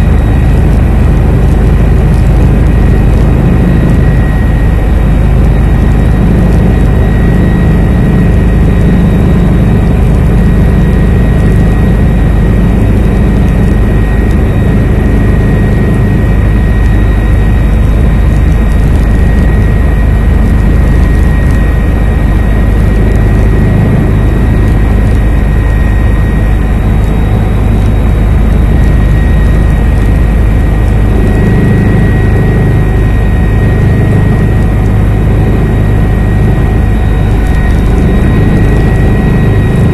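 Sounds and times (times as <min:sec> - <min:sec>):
helicopter engine and rotors: 0:00.0 - 0:39.9
thin steady whine: 0:00.0 - 0:39.9.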